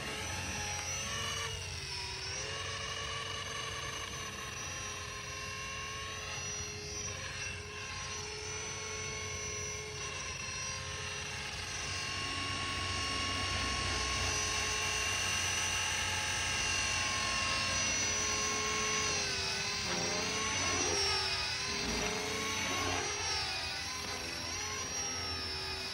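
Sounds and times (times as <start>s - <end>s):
helicopter motor and rotor whine: 0.0s - 25.9s.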